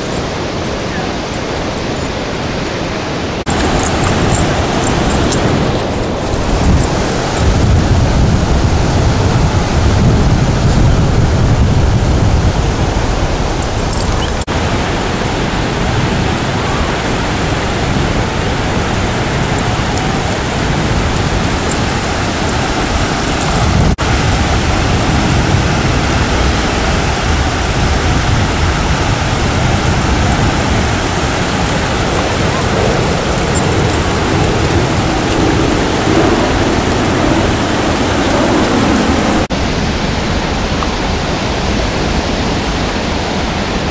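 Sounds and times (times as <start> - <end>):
ocean surf rushing: 0.0 - 43.9
wind on microphone: 0.0 - 43.9.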